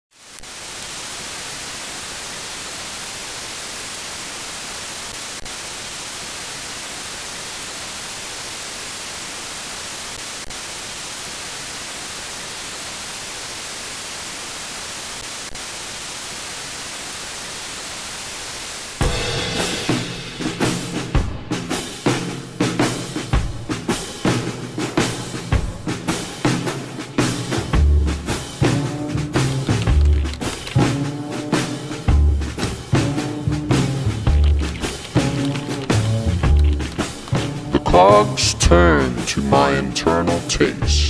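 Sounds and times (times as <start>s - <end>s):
television static hiss: 0.1s - 21.1s, 21.8s - 41.0s.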